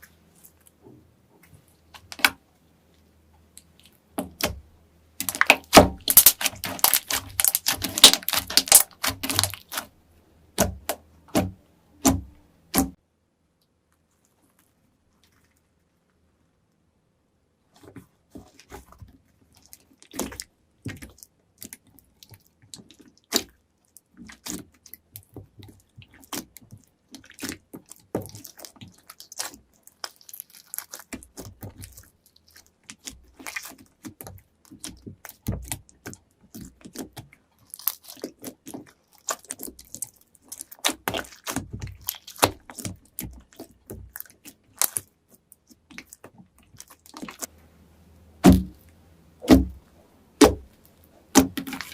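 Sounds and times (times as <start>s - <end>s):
slime squelching: 0.0s - 13.0s, 17.8s - 51.9s.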